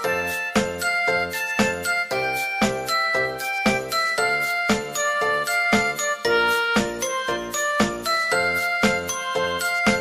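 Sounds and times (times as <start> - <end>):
bell-like chimes music: 0.0 - 10.0.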